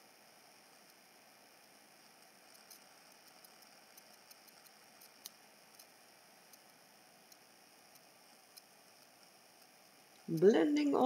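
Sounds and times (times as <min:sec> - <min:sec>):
faint room hiss: 0:00.0 - 0:11.0
small irregular clicks: 0:00.4 - 0:10.5.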